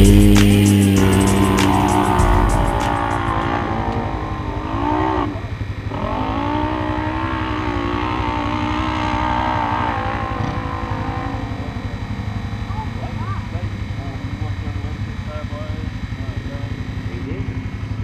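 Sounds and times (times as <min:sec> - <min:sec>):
engine revving hard: 0:00.0 - 0:18.0.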